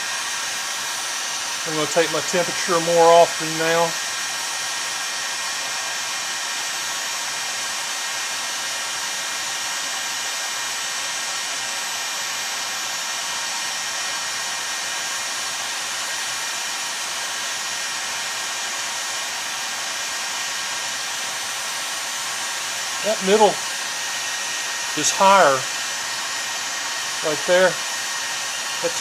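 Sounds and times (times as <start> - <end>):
heat gun blowing: 0.0 - 29.0.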